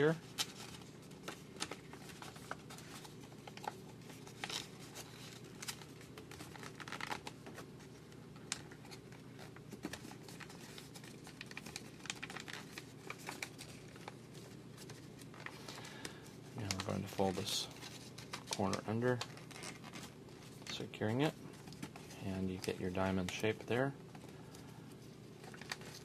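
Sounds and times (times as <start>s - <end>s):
paper rustling and crinkling: 0.0s - 26.0s
steady low hum: 0.0s - 26.0s.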